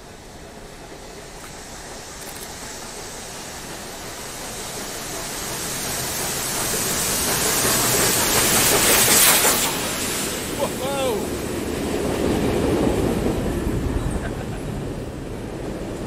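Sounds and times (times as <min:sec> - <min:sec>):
steam locomotive rushing: 0:00.0 - 0:16.0.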